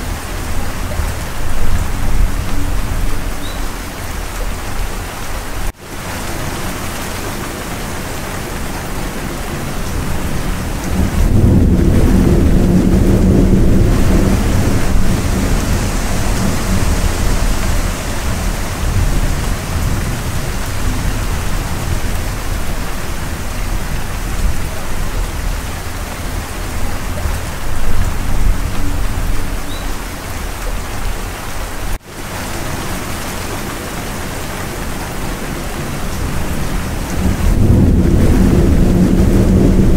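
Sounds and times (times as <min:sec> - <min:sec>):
thunder rumbling: 0:00.0 - 0:31.6, 0:32.6 - 0:39.9
heavy rain: 0:00.0 - 0:39.9.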